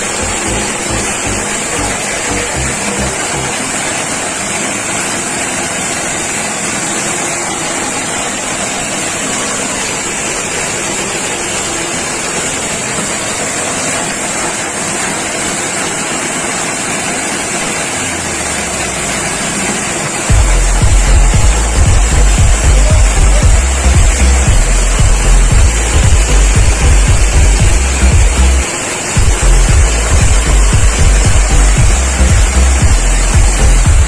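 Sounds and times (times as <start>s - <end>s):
forage chopper machine running: 0.0s - 34.0s.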